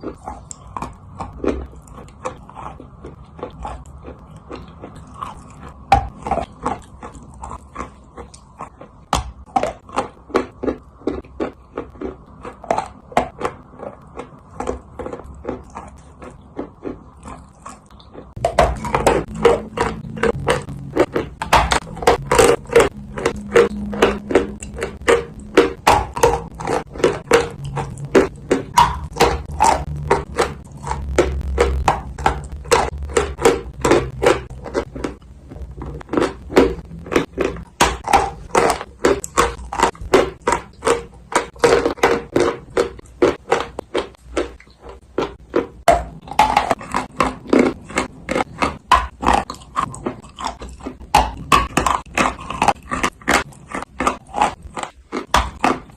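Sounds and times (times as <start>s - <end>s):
chewing crunches: 0.0s - 55.9s.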